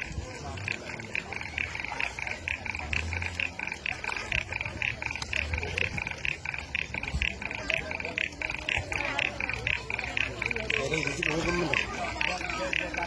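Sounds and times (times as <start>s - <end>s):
animals calling in rasping pulses: 0.0s - 13.0s.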